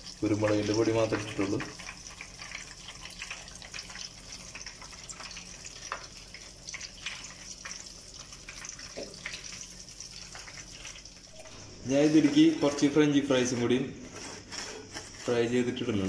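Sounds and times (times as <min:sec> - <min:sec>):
chicken deep-frying in hot oil: 0:00.0 - 0:13.5.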